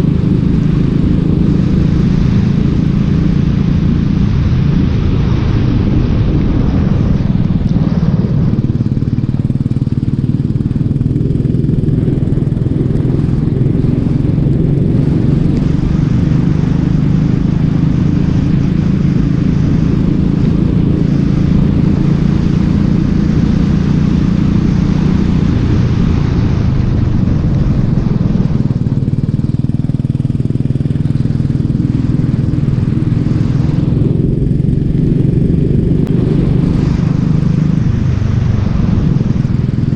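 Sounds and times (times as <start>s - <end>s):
racing kart engine running hard: 0.0s - 39.9s.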